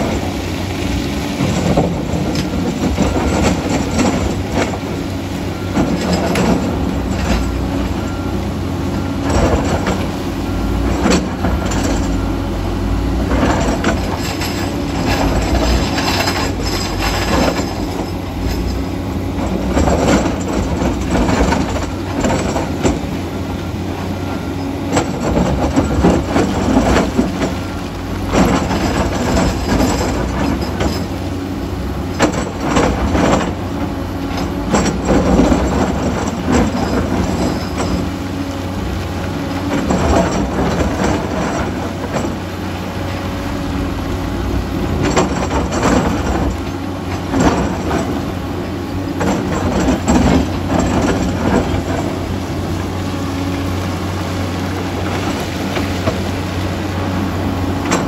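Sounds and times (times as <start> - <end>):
diesel engine drone: 0.0 - 58.0
steel tracks clanking and squealing: 0.0 - 58.0.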